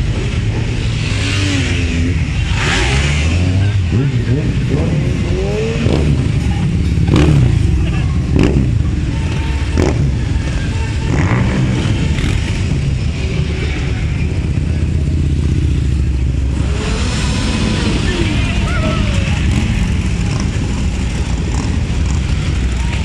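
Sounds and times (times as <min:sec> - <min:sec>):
motorcycle engines rumbling: 0:00.0 - 0:23.0.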